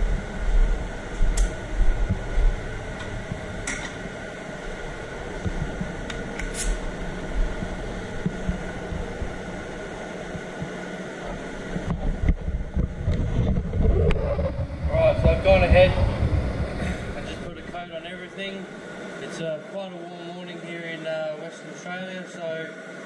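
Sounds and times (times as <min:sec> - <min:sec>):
ventilation fans humming: 0:00.0 - 0:23.0.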